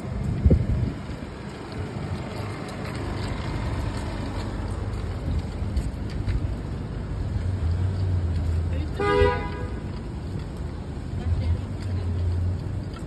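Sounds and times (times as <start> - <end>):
traffic rumble: 0.0 - 13.0
wind buffeting microphone: 0.0 - 13.0.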